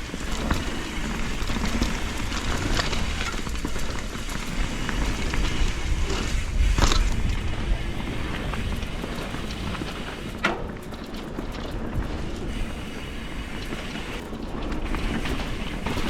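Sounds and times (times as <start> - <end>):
bike knocking and rattling: 0.0 - 16.0
tyre and wind rushing: 0.0 - 16.0.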